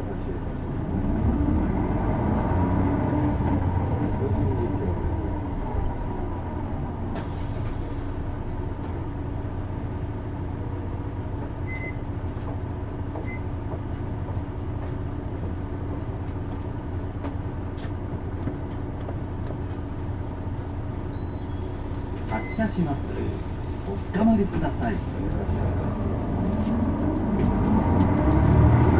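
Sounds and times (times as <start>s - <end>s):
bus diesel engine idling: 2.6s - 28.9s.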